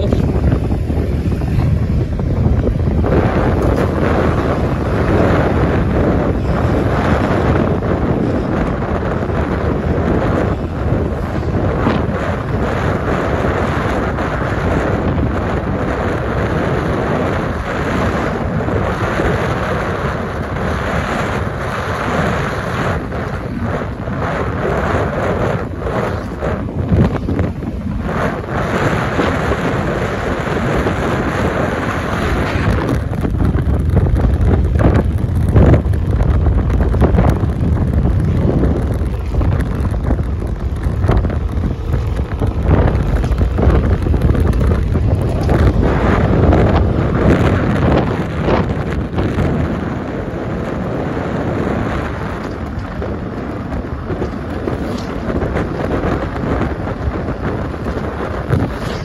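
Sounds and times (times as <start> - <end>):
engine rumble: 0.0 - 59.0
tyres on road: 0.0 - 59.0
wind buffeting microphone: 0.0 - 59.0.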